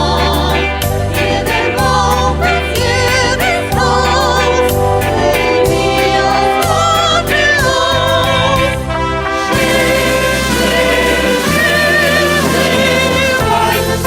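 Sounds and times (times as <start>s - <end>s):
choir singing with vibrato: 0.0s - 14.0s
instrumental accompaniment with bass: 0.0s - 14.0s.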